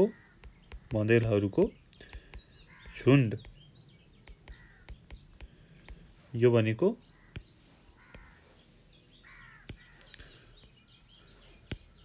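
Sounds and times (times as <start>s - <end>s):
birds cawing: 0.0s - 6.1s, 6.8s - 12.0s
stylus tapping glass screen: 0.0s - 6.2s, 7.1s - 8.4s, 9.2s - 10.8s, 11.4s - 12.0s
high bird chirps: 0.0s - 12.0s.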